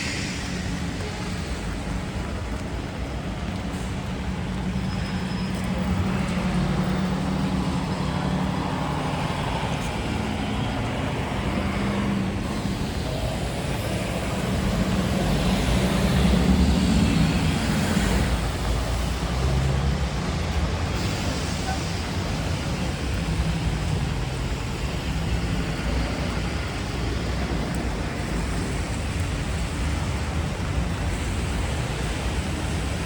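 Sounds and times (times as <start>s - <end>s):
car engines humming: 0.0s - 33.0s
tyres hissing on wet pavement: 0.0s - 33.0s.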